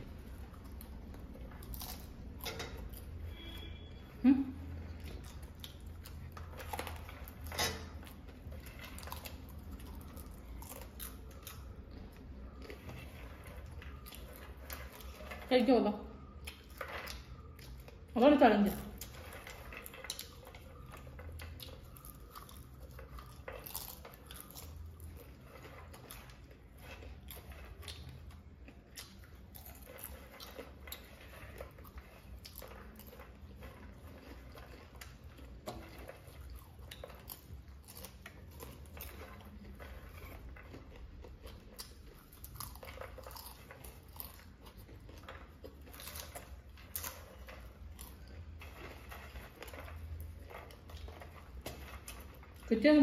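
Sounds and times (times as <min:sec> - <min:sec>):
people chewing popcorn: 0:00.0 - 0:53.0.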